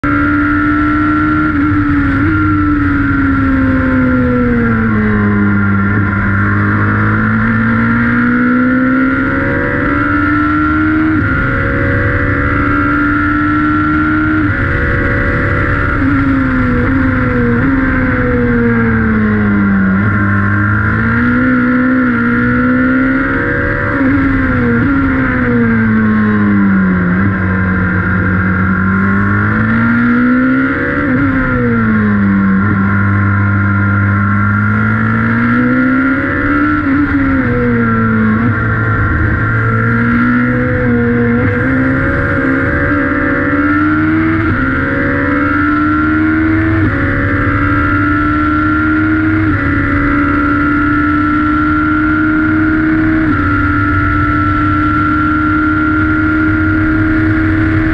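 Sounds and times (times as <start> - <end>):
race car engine revving: 0.0 - 57.9
steady high whine: 0.0 - 57.9.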